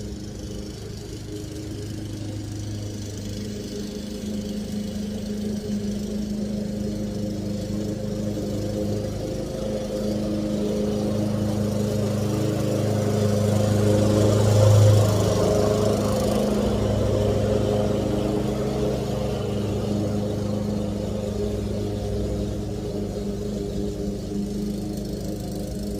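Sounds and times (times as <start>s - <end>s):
lawn mower engine running: 0.0s - 25.9s.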